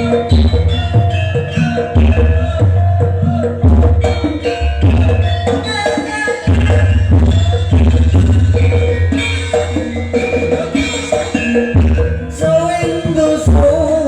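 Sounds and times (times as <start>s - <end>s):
loud percussive music with heavy bass: 0.0s - 14.0s.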